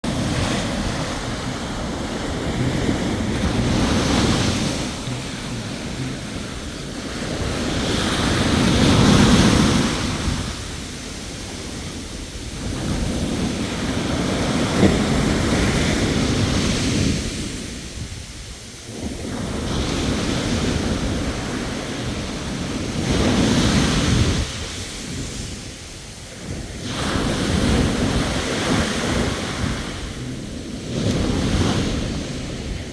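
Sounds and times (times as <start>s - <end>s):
sea waves breaking on shore: 0.0s - 32.9s.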